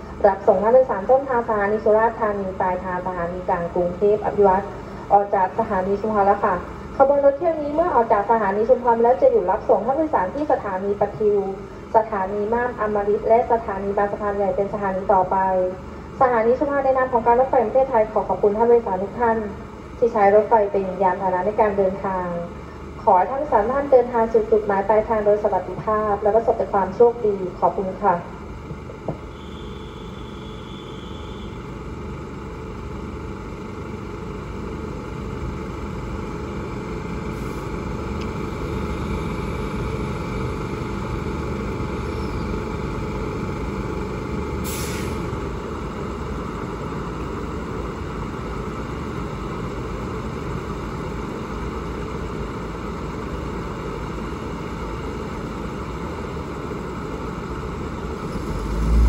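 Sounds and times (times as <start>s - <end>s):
diesel train engine idling: 0.0s - 59.0s.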